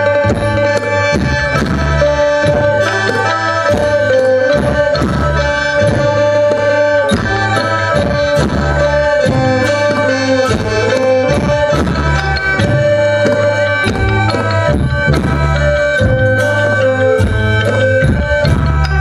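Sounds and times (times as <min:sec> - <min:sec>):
drums beating: 0:00.0 - 0:19.0
folk melody line: 0:00.0 - 0:19.0.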